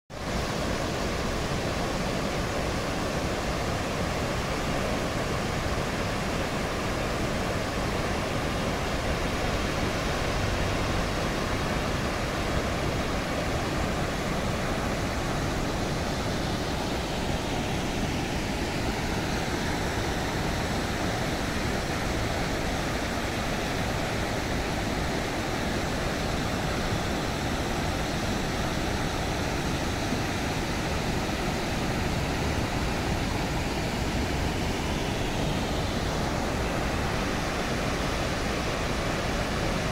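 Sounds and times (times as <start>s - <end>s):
river water rushing through weir: 0.2s - 39.9s.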